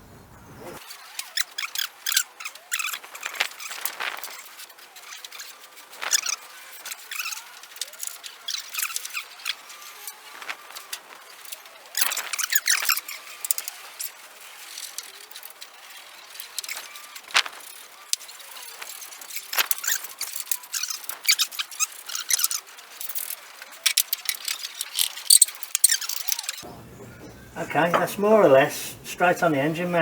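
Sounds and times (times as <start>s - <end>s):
short scraping squeaks: 0.8s - 28.0s.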